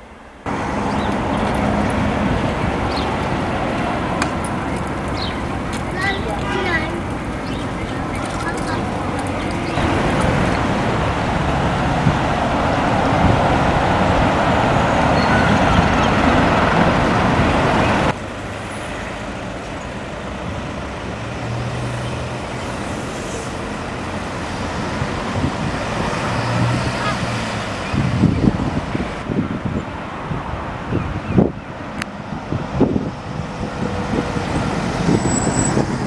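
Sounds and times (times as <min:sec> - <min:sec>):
bus engine hum: 0:00.0 - 0:36.0
road traffic: 0:00.0 - 0:36.0
wind rumbling on microphone: 0:00.5 - 0:18.2, 0:23.9 - 0:36.0.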